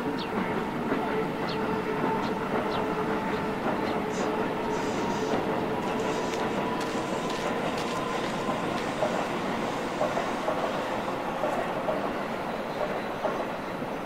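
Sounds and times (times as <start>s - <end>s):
train rolling rail noise: 0.0s - 14.0s.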